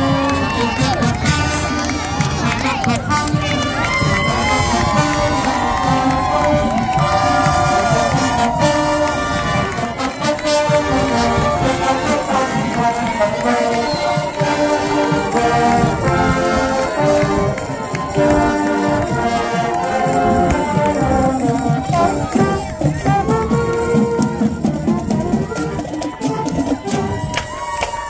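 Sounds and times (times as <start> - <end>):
marching band brass and saxophones: 0.0 - 28.0.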